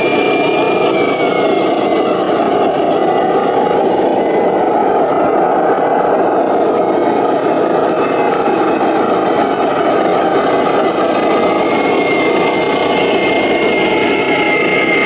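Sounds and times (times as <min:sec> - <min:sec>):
model vehicle motor whine: 0:00.0 - 0:15.0.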